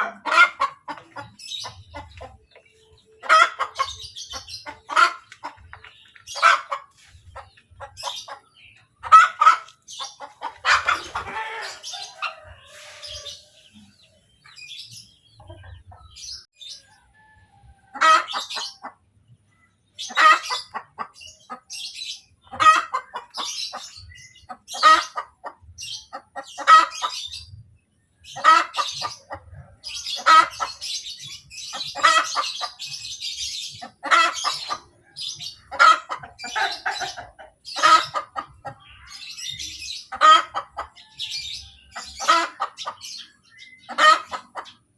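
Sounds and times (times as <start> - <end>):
hen cackling: 0.0 - 14.0, 17.9 - 19.0, 20.0 - 21.7, 22.4 - 27.4, 28.3 - 31.0, 31.7 - 44.8.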